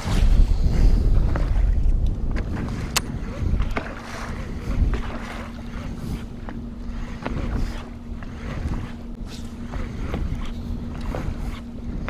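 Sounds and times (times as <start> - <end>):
steady low hum: 0.0 - 12.0
waves slapping against boat: 0.0 - 12.0
wind buffeting microphone: 0.0 - 12.0.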